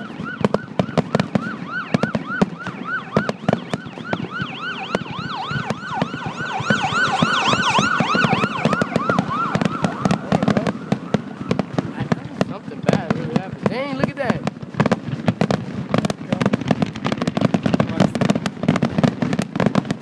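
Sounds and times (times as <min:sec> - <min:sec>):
emergency sirens yelping: 0:00.0 - 0:20.0
firework bangs and crackling: 0:00.0 - 0:20.0.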